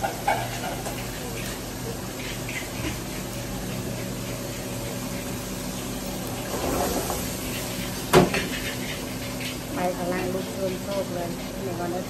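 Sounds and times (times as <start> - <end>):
gas burners running: 0.0 - 12.0.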